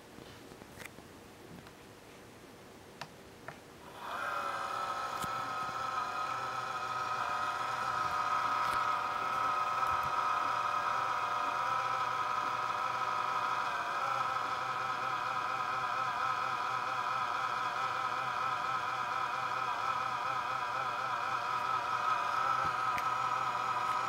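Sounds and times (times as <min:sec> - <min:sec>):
laptop fan whining: 0:03.8 - 0:24.0.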